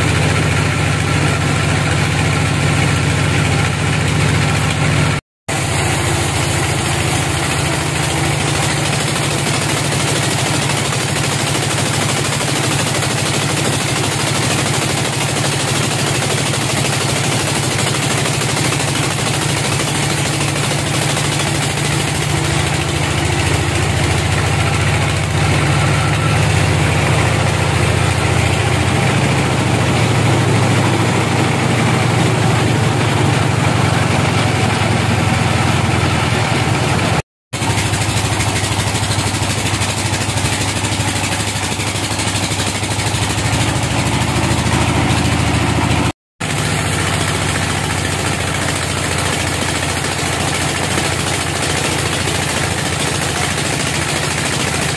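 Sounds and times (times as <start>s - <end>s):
band saw sawing log: 0.0s - 54.9s.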